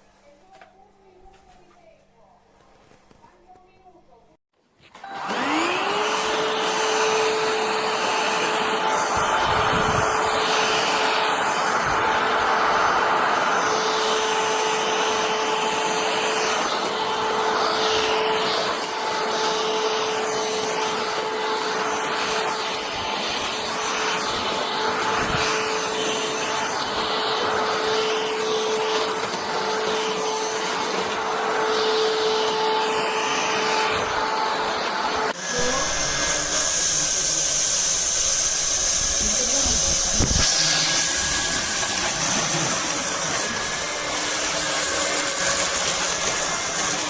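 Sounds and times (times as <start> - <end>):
stick vacuum running: 4.9 - 47.0.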